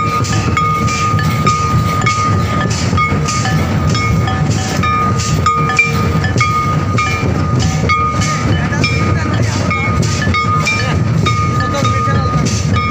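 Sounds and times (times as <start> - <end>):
dense drum beat: 0.0 - 12.9.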